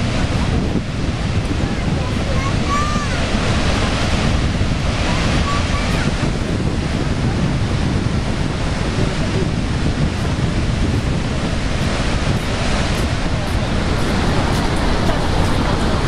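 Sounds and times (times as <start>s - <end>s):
churning water: 0.0s - 16.0s
waterfall roaring: 0.0s - 16.0s
wind buffeting microphone: 0.0s - 16.0s.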